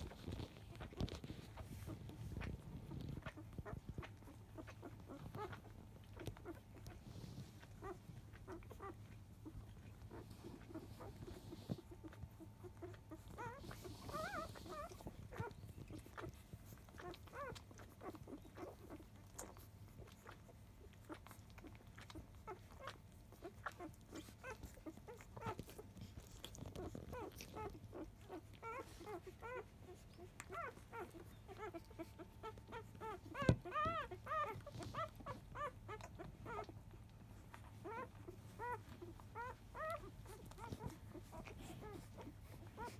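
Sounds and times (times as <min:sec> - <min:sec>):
puppies squeaking and grunting: 0:00.0 - 0:42.9.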